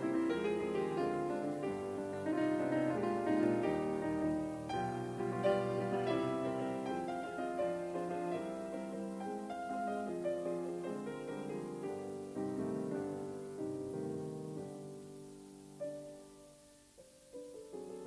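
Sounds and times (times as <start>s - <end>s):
instrumental piano music: 0.0s - 18.0s.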